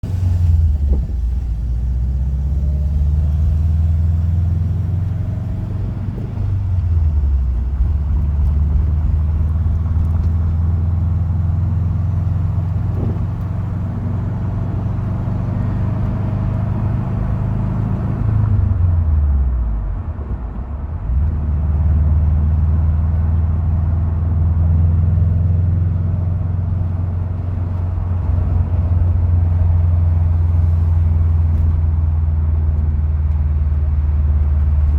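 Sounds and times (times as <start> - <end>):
car engine running: 0.0 - 18.7, 23.8 - 34.9.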